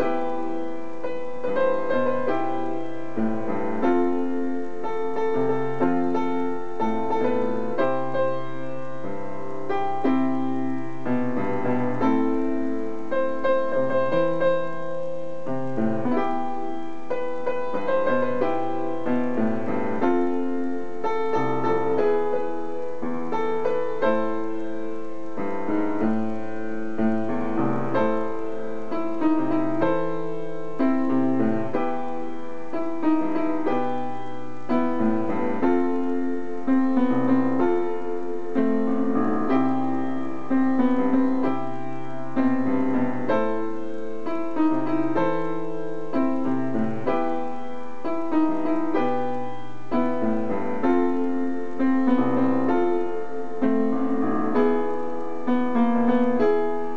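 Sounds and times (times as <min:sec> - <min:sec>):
solo piano playing pop song: 0:00.0 - 0:56.9.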